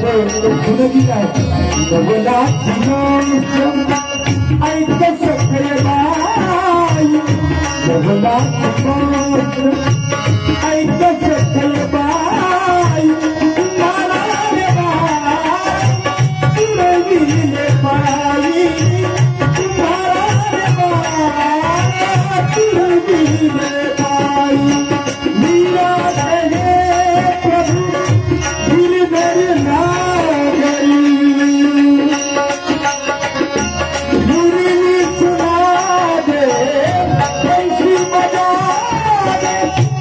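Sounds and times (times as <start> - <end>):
hand drum rhythm: 0.0 - 40.0.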